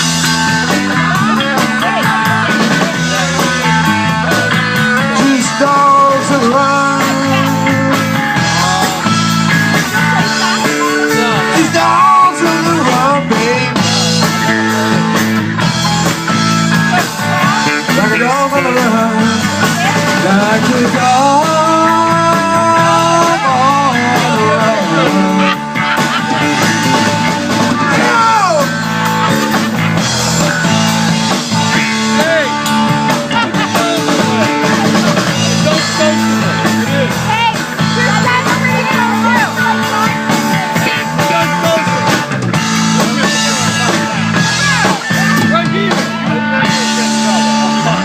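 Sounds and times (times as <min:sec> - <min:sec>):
electric guitar lead notes: 0:00.0 - 0:48.0
rock band playing: 0:00.0 - 0:48.0.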